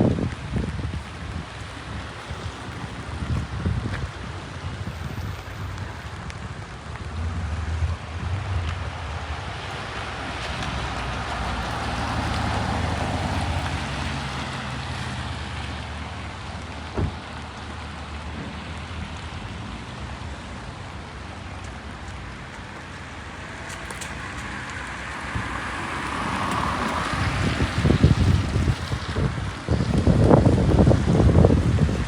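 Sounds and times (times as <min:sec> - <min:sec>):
rain hissing on wet street: 0:00.0 - 0:32.0.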